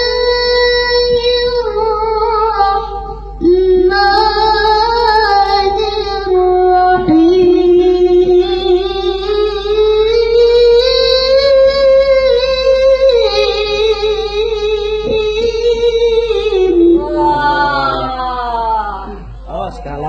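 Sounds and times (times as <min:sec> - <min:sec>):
woman singing chant-like melody: 0:00.0 - 0:19.3
steady low hum: 0:00.0 - 0:20.0.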